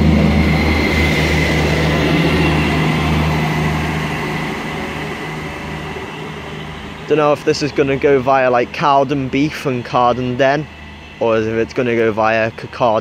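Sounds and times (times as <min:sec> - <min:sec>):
diesel train engine drone: 0:00.0 - 0:13.0
wheels on rail: 0:00.0 - 0:13.0.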